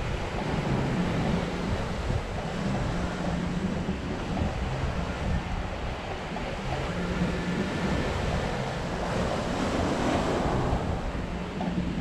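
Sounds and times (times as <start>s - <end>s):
ocean waves breaking on beach: 0.0s - 12.0s
wind rumbling on microphone: 0.0s - 12.0s.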